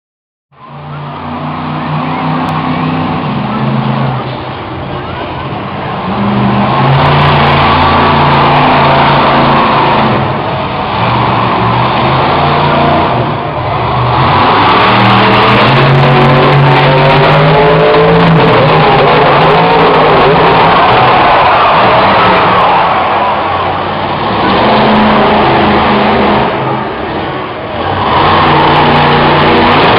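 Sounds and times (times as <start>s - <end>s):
truck engine revving hard: 0.6s - 29.9s.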